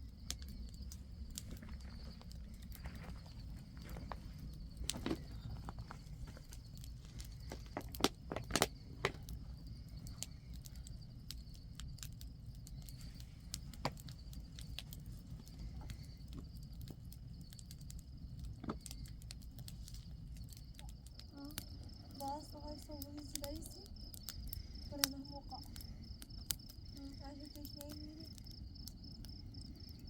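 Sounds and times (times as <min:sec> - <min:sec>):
sharp clicks and crackles: 0:00.1 - 0:30.0.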